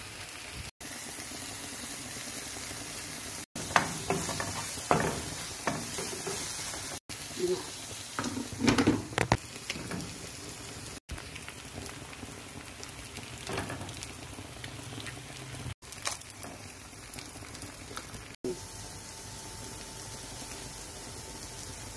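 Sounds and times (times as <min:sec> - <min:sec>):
food sizzling in a pan: 0:00.0 - 0:21.9.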